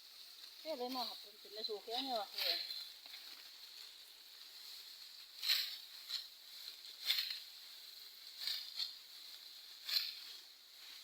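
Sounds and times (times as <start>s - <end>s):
dry plant stalks swishing: 0.0s - 11.0s.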